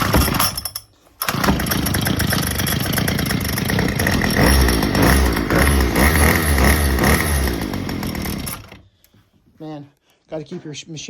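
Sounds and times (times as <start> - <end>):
string trimmer engine starting: 0.0 - 9.0.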